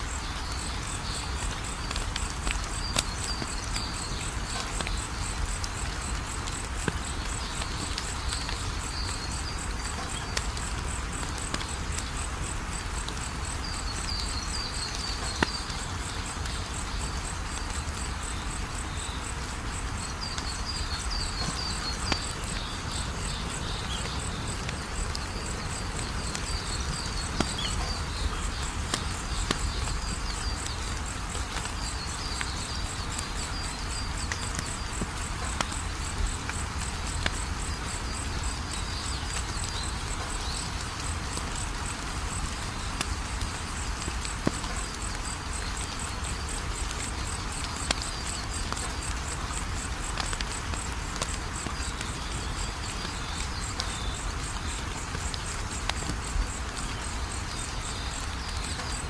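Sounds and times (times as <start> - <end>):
insects trilling: 0.0 - 59.0
wood fire crackling: 0.0 - 59.0.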